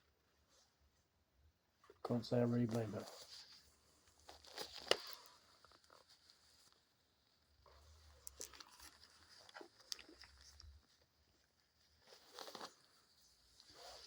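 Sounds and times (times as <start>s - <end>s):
faint rustling: 1.9s - 14.0s.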